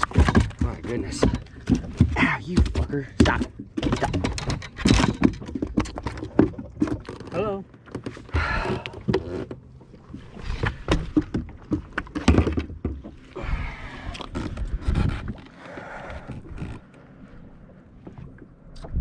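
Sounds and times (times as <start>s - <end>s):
knocks and thumps in a boat: 0.0s - 19.0s.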